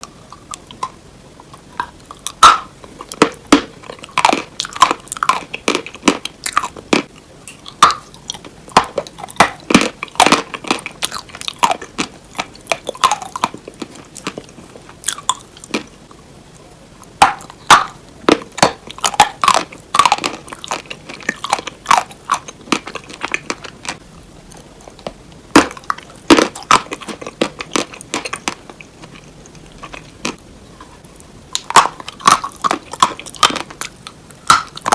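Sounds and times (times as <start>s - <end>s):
hard cheese crunching being chewed: 0.0s - 34.9s.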